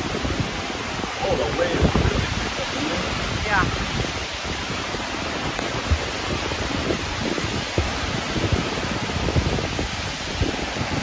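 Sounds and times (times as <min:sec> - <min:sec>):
pounding surf: 0:00.0 - 0:11.0
wind buffeting microphone: 0:00.0 - 0:11.0
wind rushing: 0:00.0 - 0:11.0.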